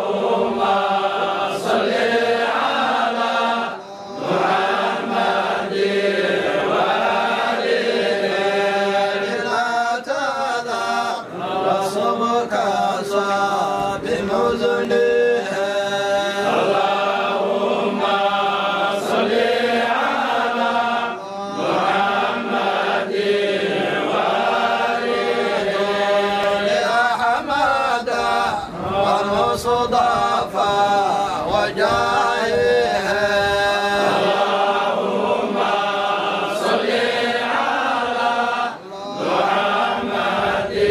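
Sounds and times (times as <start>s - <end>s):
men chanting in unison: 0.0s - 40.9s.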